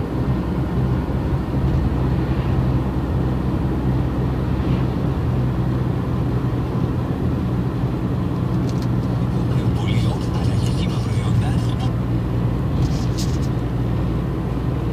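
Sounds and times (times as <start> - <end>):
car engine hum: 0.0 - 14.9
road noise: 0.0 - 14.9.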